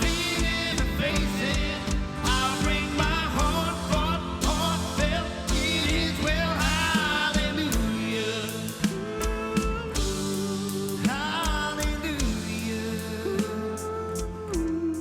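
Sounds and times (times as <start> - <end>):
person singing: 0.0 - 15.0
steady drum beat: 0.0 - 15.0
worship band playing: 0.0 - 15.0.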